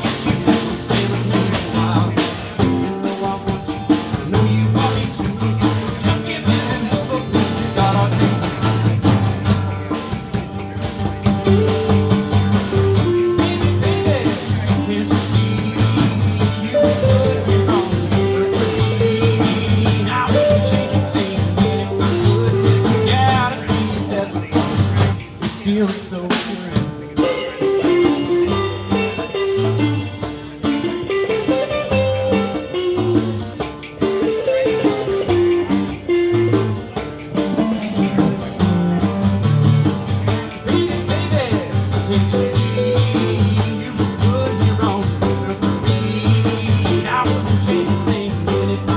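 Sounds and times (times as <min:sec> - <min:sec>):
bass: 0:00.0 - 0:48.9
blues guitar melody: 0:00.0 - 0:48.9
drums: 0:00.0 - 0:48.9.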